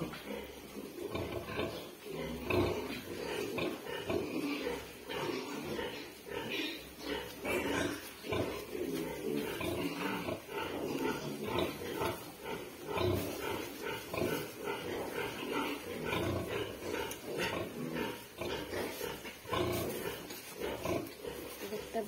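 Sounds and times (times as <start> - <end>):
piglets squealing and grunting: 0.0 - 21.9
sow grunting: 0.0 - 22.0.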